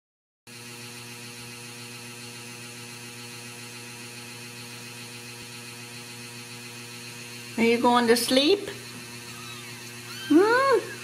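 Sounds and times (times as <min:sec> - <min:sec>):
electrical mains hum: 0:00.6 - 0:11.0.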